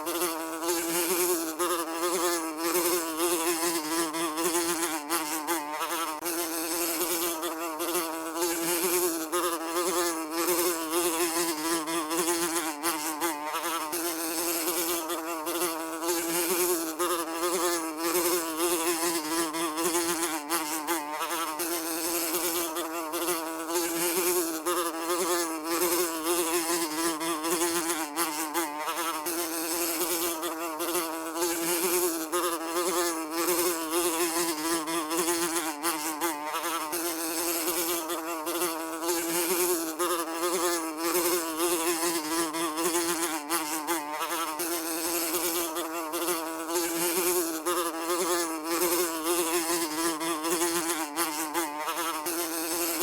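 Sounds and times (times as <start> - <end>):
housefly buzzing in flight: 0.0 - 53.0.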